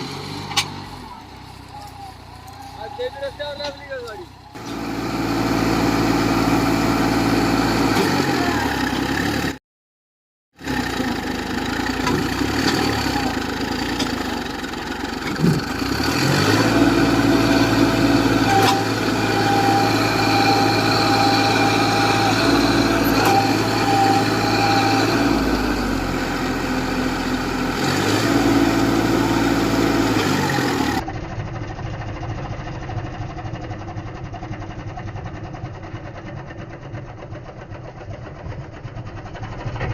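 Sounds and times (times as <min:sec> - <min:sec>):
tractor engine running: 0:00.0 - 0:09.6, 0:10.6 - 0:39.9.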